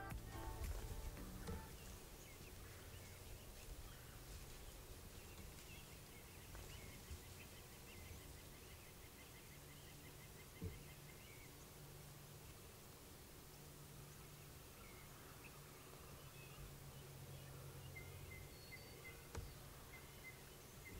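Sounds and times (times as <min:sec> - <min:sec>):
distant bird chirps: 0:00.0 - 0:12.6, 0:13.6 - 0:20.9.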